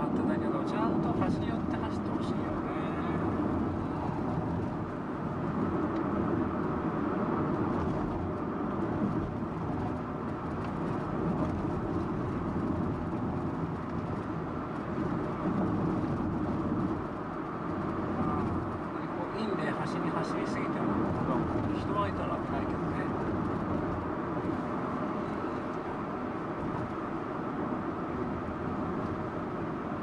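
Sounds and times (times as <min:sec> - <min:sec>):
car cabin road and engine noise: 0:00.0 - 0:30.0.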